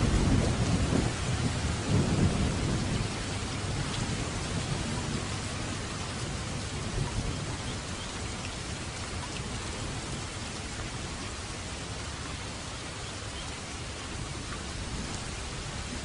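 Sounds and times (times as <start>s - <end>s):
low rumble of thunder: 0.0s - 12.2s, 14.1s - 16.0s
steady rain falling: 0.0s - 16.0s.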